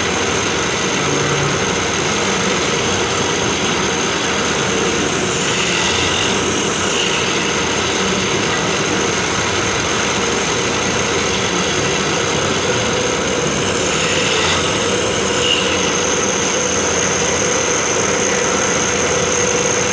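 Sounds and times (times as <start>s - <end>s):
drilling machine running: 0.0s - 19.9s
faint high whine: 1.1s - 19.9s.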